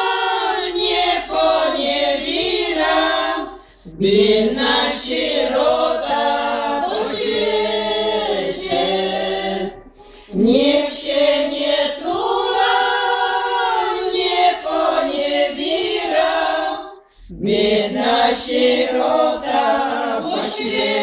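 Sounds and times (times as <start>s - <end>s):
women singing unaccompanied: 0.0s - 21.0s.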